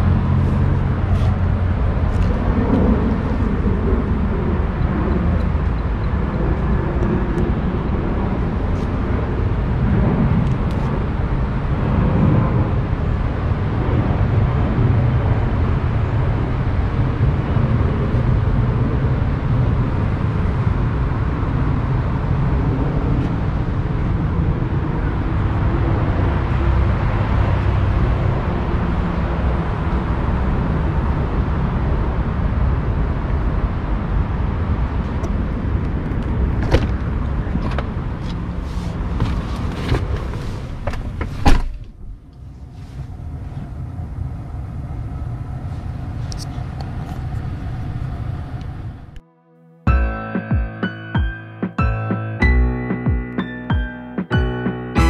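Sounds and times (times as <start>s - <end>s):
car rumbling slowly: 0.0s - 49.2s
road and tyre noise: 0.0s - 55.0s.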